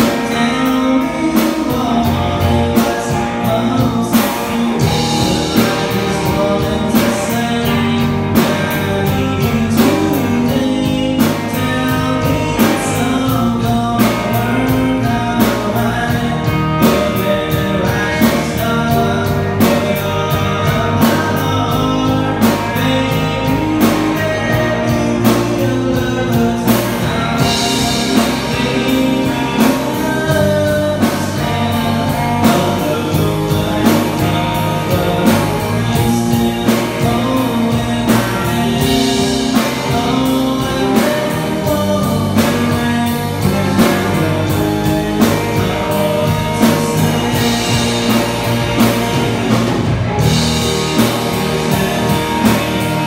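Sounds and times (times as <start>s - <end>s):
electric bass: 0.0s - 53.0s
electric guitar: 0.0s - 53.0s
male lead singer: 0.0s - 53.0s
steady drum beat: 0.0s - 53.0s.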